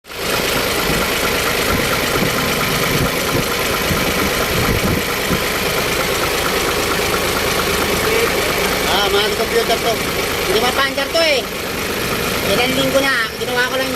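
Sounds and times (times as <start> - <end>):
diesel engine idling: 0.0 - 13.9.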